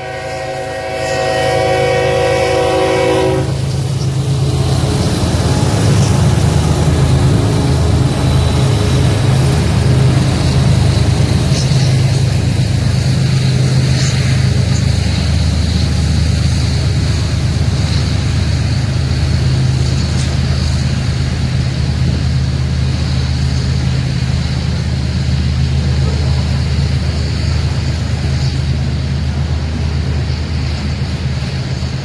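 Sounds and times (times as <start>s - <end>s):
diesel locomotive engines droning: 0.0s - 32.0s.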